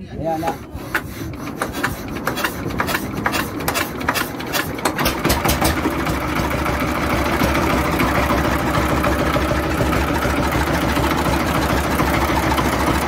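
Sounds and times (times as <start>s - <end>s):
diesel engine hand-cranked: 0.2s - 13.0s
diesel engine running: 1.4s - 13.0s.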